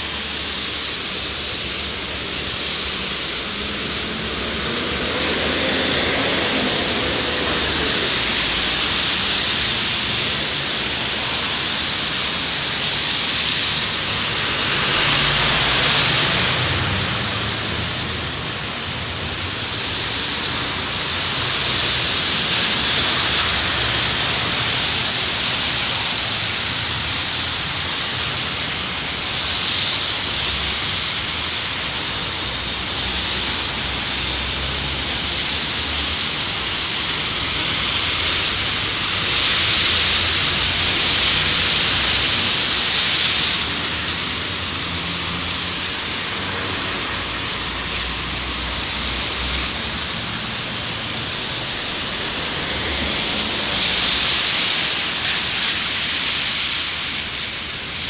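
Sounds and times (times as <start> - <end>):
rain hissing: 0.0 - 58.0
tyres on wet road: 0.0 - 58.0.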